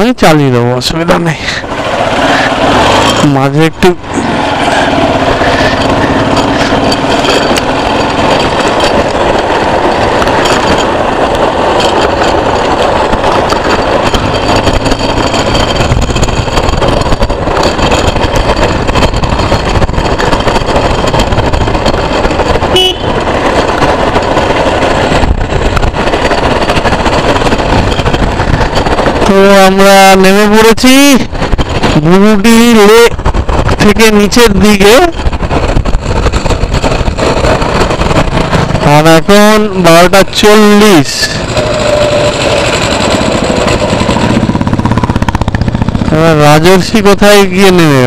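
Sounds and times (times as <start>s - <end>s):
motorcycle engine and road noise: 0.0s - 48.0s.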